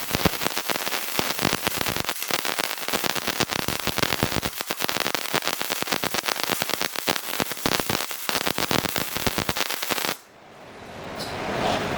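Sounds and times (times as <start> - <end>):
welding arc crackling: 0.0 - 10.3.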